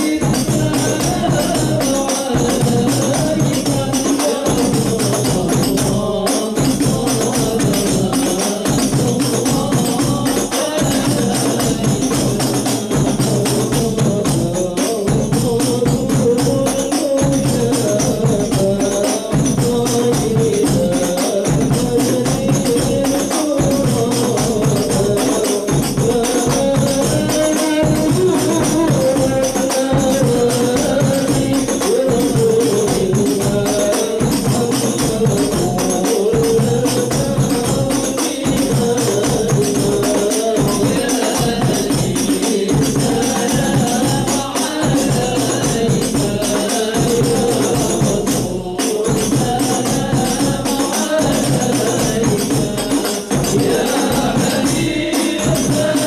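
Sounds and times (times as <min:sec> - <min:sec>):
frame drums beating: 0:00.0 - 0:56.0
men singing together: 0:00.0 - 0:56.0.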